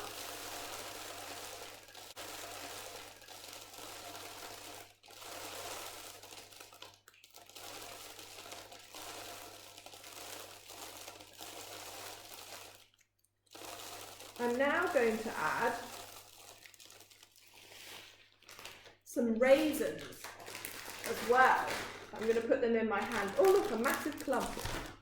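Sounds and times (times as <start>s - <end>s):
oats poured into plastic bottle: 0.0s - 25.0s.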